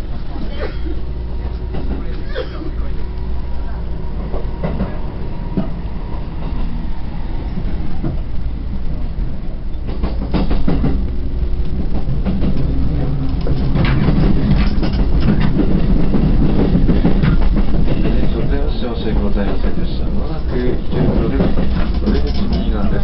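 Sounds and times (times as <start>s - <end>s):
train interior rumble: 0.0s - 23.0s
wheels clattering on track: 1.4s - 6.7s, 9.7s - 23.0s.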